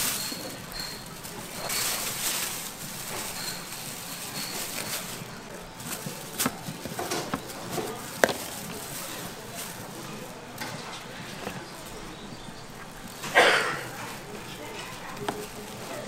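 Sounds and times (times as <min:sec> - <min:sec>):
steady kitchen hiss: 0:00.0 - 0:16.0.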